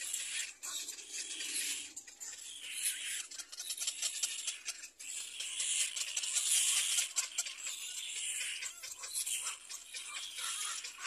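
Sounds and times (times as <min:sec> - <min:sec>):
chicks hissing begging calls: 0:00.0 - 0:11.0.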